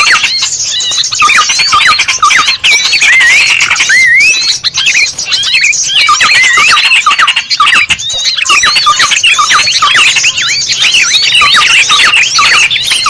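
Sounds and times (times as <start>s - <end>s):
small birds chattering: 0.0s - 13.0s.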